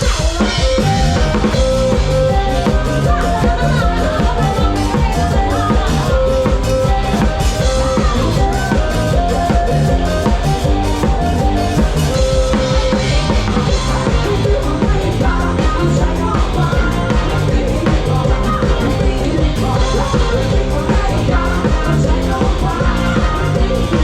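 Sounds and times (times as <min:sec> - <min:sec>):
drum kit beat: 0:00.0 - 0:24.0
live band playing instrumental: 0:00.0 - 0:24.0.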